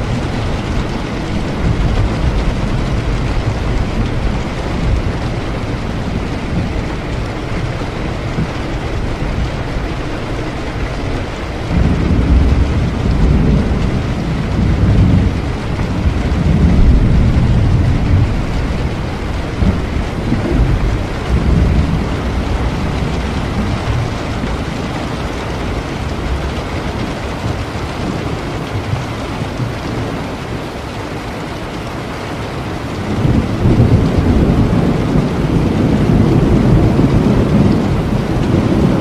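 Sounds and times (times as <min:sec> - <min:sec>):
heavy rain: 0:00.0 - 0:39.0
rolling thunder rumble: 0:00.0 - 0:39.0.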